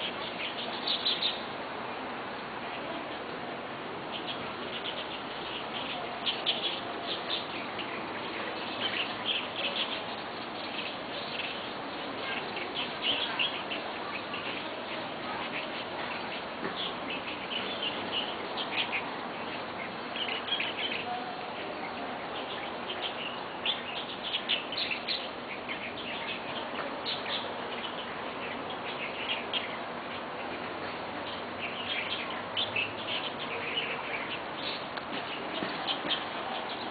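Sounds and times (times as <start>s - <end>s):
birds chirping and calling: 0.0s - 1.6s, 4.0s - 36.9s
steady background hiss: 0.0s - 36.9s.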